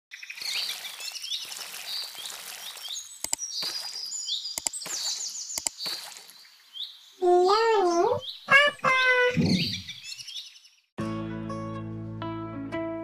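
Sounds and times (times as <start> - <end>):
small birds chirping: 0.1 - 10.9.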